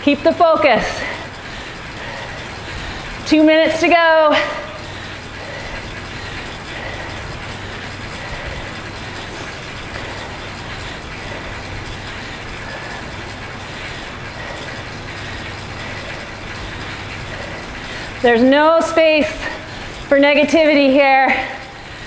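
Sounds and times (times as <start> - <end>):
bike trainer mechanical whir: 0.0 - 22.0.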